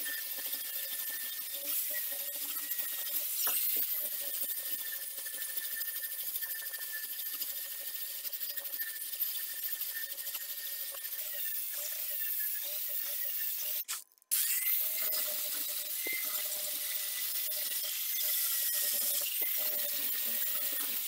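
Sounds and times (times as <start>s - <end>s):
electric grinder grinding steel: 0.0s - 21.0s.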